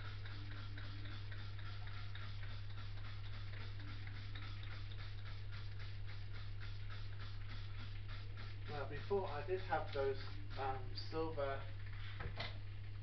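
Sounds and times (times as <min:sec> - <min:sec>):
low hum with fast ticking: 0:00.0 - 0:13.0.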